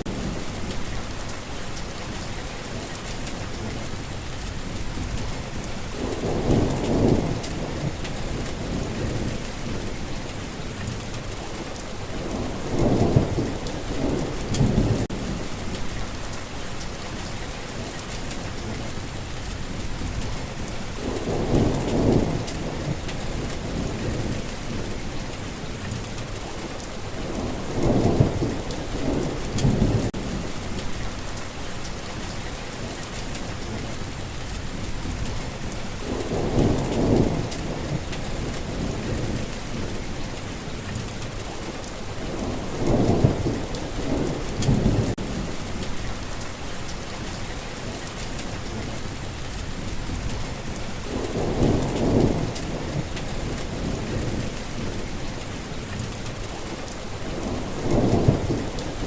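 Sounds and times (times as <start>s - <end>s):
rain falling on ground: 0.0s - 59.0s
thunder rumbling: 0.0s - 59.0s.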